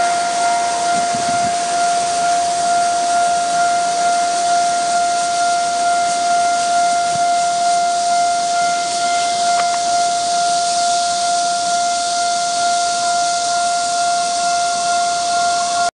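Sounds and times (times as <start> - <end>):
level-crossing alarm tone: 0.0 - 15.9
train wheels hissing on rails: 0.0 - 15.9.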